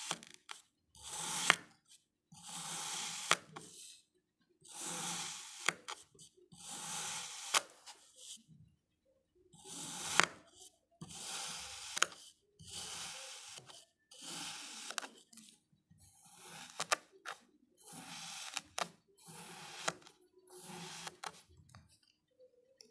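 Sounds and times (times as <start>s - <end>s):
knife cutting kinetic sand: 0.0s - 4.0s, 4.6s - 8.3s, 9.6s - 21.5s.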